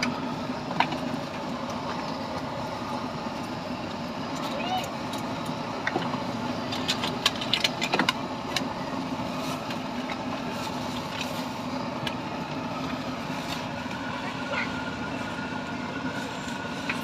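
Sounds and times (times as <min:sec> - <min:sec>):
engine-like hum: 0:00.0 - 0:17.0
street noise: 0:00.0 - 0:17.0.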